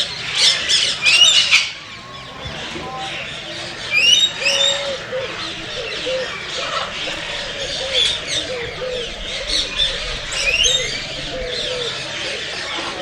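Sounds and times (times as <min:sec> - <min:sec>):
birds chirping and tweeting: 0:00.0 - 0:13.0
low cooing notes: 0:00.0 - 0:13.0.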